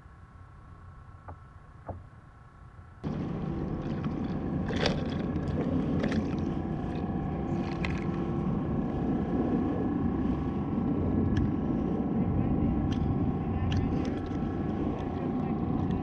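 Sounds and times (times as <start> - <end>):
faint steady hum: 0.0 - 16.0
wind and water rumble: 0.0 - 16.0.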